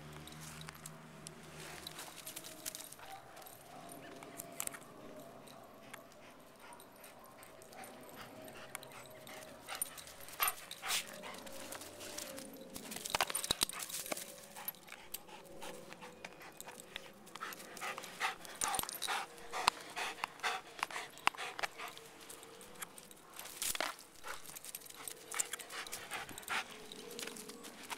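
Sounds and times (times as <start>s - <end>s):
dog panting: 1.6s - 27.9s.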